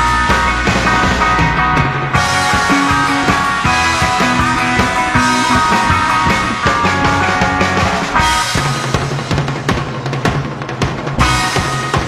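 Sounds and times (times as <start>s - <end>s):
drum kit steady beat: 0.0s - 12.0s
rock music: 0.0s - 12.0s.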